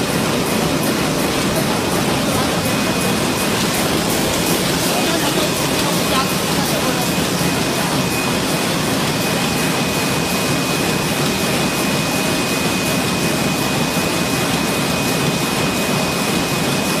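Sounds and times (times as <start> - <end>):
high-pitched machine whine: 0.0 - 17.0.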